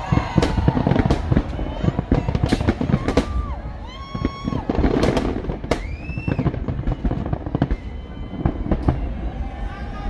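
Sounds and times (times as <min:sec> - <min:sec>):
firework whistles: 0:00.0 - 0:09.7
fireworks bangs and crackling: 0:00.0 - 0:10.0.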